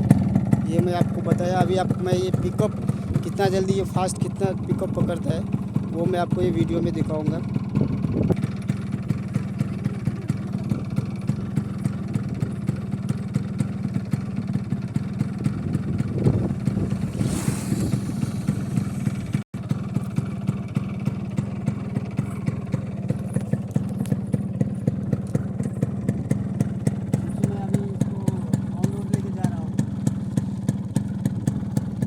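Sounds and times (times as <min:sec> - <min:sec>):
two-stroke motorcycle engine running: 0:00.0 - 0:32.0.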